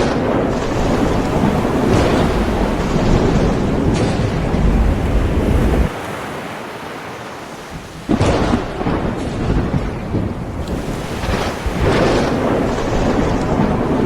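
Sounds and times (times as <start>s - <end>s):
rushing rumbling surf: 0.0s - 14.0s.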